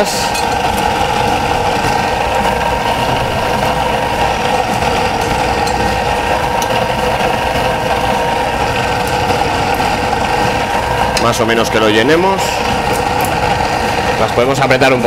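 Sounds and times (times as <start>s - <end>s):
kitchen machine droning: 0.0s - 15.0s.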